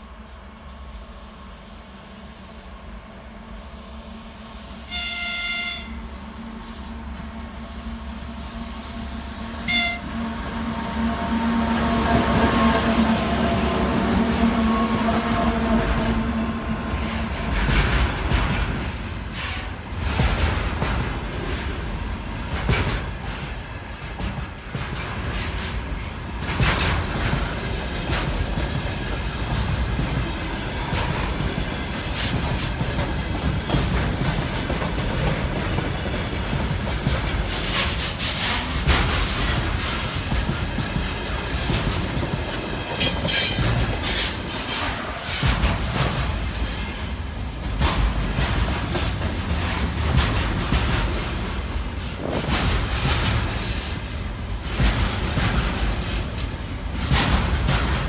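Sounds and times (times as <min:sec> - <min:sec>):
train wheels rumbling on rails: 0:00.0 - 0:58.0
clickety-clack of rail joints: 0:04.8 - 0:58.0.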